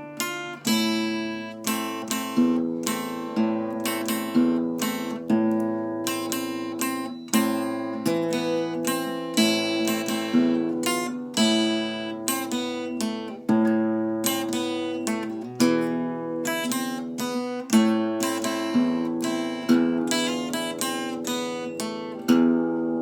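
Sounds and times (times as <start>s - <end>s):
acoustic guitar melody: 0.0s - 23.0s.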